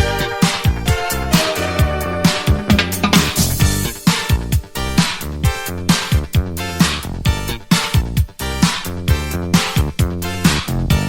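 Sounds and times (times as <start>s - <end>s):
instrumental disco-funk music: 0.0s - 11.0s.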